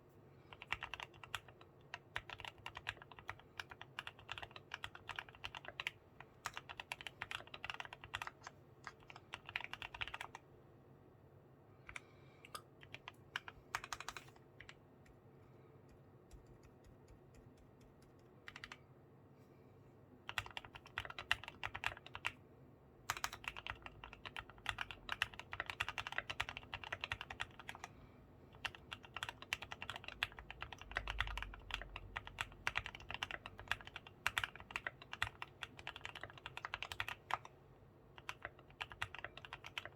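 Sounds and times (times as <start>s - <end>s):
mechanical keyboard typing: 0.5s - 10.4s, 11.9s - 14.8s, 16.3s - 18.8s, 20.3s - 22.4s, 23.1s - 27.9s, 28.5s - 37.5s, 38.1s - 39.9s.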